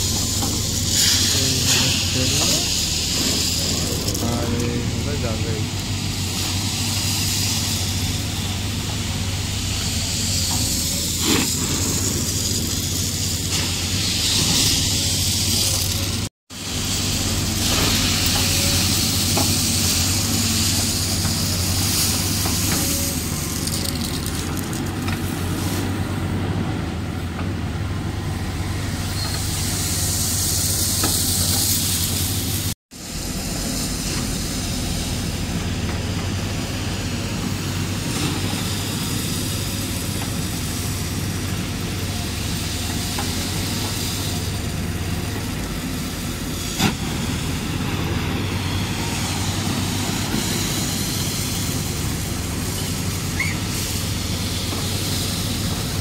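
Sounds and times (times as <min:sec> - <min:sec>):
hiss: 0:00.0 - 0:26.1, 0:28.3 - 0:56.0
diesel engine running: 0:00.0 - 0:56.0.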